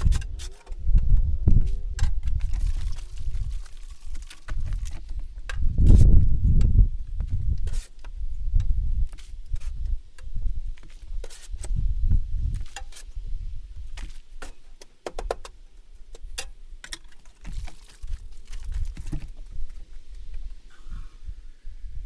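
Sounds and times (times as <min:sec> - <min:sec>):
wind rumbling on microphone: 0:00.0 - 0:14.2, 0:17.4 - 0:22.0.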